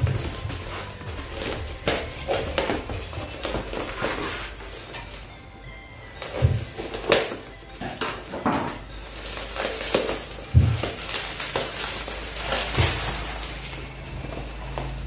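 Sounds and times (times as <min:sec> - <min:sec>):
bubble wrap crinkling: 0:00.0 - 0:05.4, 0:06.0 - 0:14.9.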